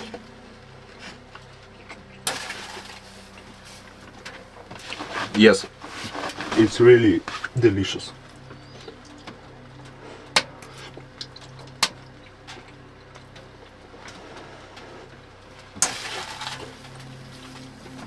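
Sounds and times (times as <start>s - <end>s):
scraping and rustling: 0.0s - 18.0s.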